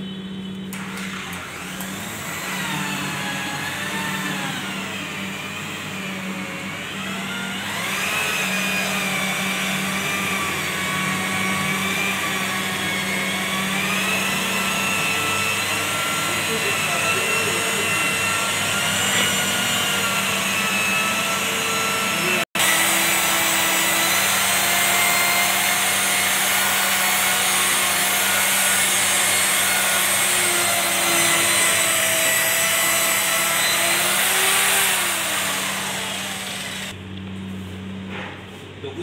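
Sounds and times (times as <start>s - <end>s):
rotary polisher motor whine: 0.0s - 37.0s.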